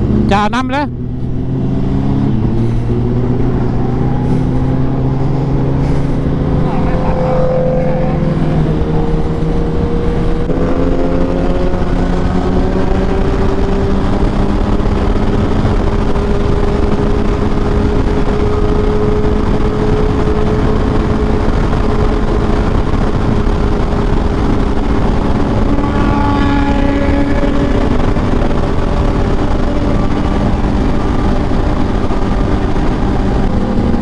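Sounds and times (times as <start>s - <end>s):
motorcycle engine running: 0.0s - 34.0s
wind and road rush: 0.0s - 34.0s.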